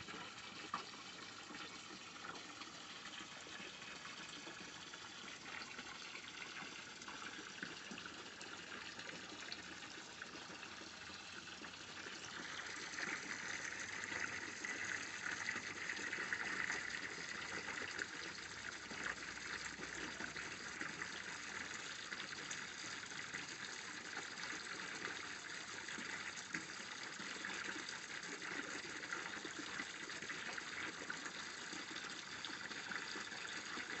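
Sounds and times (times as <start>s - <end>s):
water splashing into a tank: 0.0s - 34.0s.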